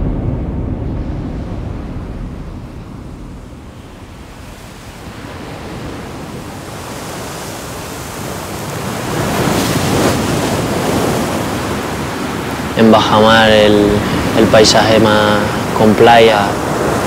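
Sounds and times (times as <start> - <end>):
surf breaking on rocky shore: 0.0 - 17.0.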